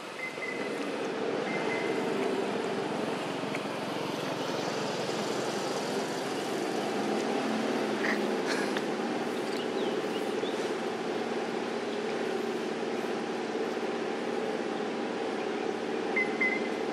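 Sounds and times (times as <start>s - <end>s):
vehicle engine droning: 0.0s - 16.9s.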